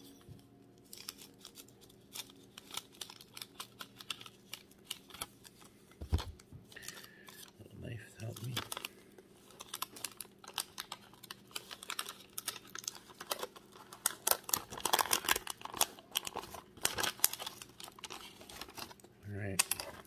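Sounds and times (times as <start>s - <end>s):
trading cards clicking and rustling: 0.8s - 7.6s, 8.2s - 20.0s.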